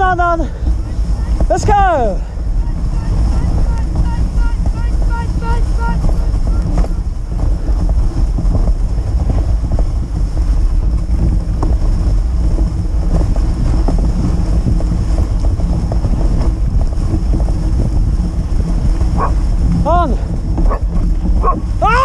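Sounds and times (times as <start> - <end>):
sled runners scraping over snow: 0.0 - 22.0
wind rumbling on microphone: 0.0 - 22.0.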